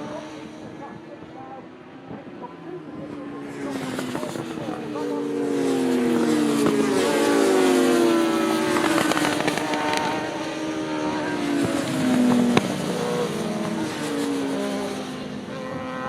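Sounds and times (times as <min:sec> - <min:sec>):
racing motorcycles passing: 0:00.0 - 0:16.0.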